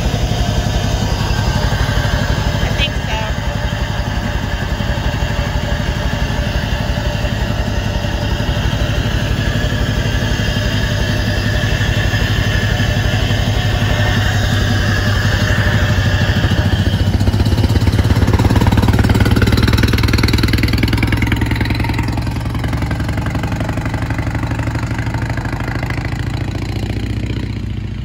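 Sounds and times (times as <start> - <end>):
car engine driving away: 0.0 - 28.0.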